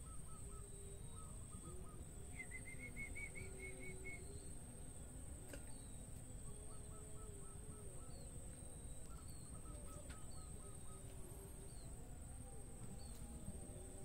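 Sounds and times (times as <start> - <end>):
faint outdoor rumble: 0.0 - 14.0.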